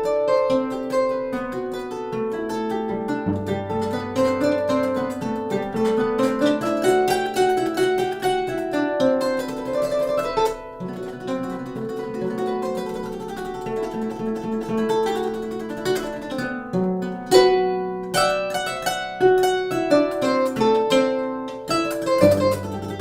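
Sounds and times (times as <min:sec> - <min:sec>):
harp plucked melody: 0:00.0 - 0:23.0.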